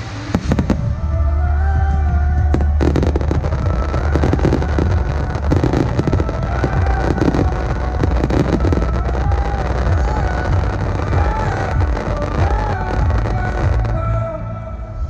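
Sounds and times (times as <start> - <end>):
fireworks bursting and crackling: 0.0 - 14.0
faint song music: 0.0 - 15.0.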